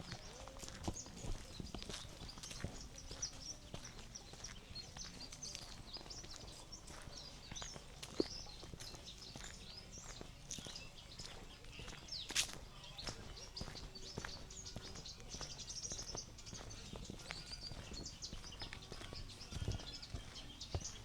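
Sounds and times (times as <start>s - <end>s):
birds chirping: 0.0s - 21.0s
soft footsteps: 0.0s - 21.0s.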